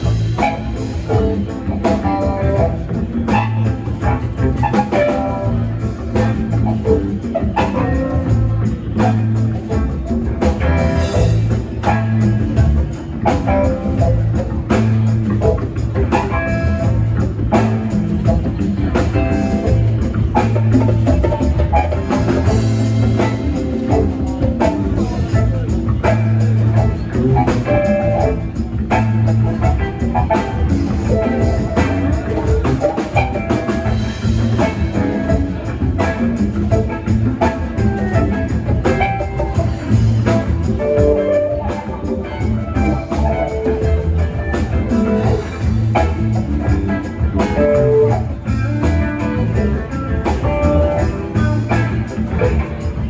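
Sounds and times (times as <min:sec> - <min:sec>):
drum kit beat: 0:00.0 - 0:53.0
guitar: 0:00.0 - 0:53.0.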